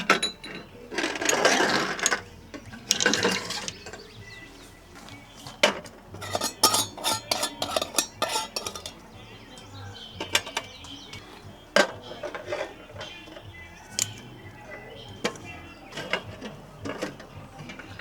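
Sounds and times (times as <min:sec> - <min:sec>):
cookware clinking and knocking: 0:00.0 - 0:04.2, 0:05.6 - 0:18.0.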